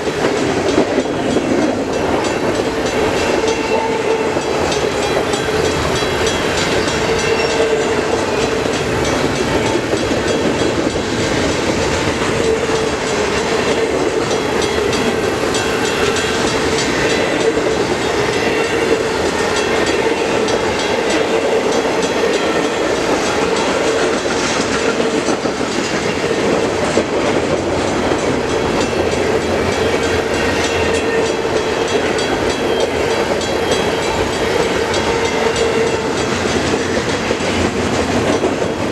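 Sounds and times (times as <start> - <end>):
clickety-clack over rail joints: 0.0 - 38.9
train wheels on rails: 0.0 - 38.9.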